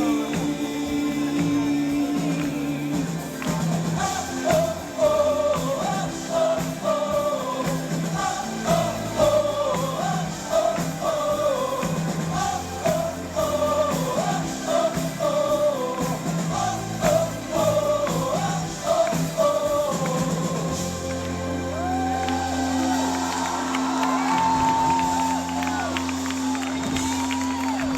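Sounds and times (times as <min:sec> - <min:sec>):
band playing drums and bass: 0:00.0 - 0:27.9.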